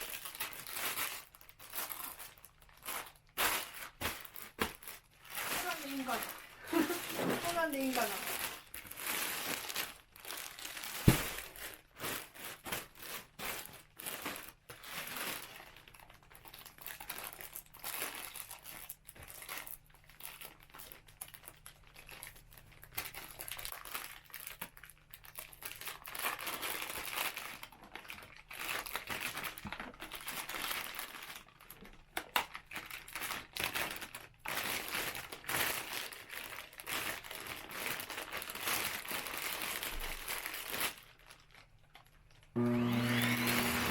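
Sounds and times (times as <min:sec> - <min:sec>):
plastic bag crinkling and rustling: 0:00.0 - 0:43.9.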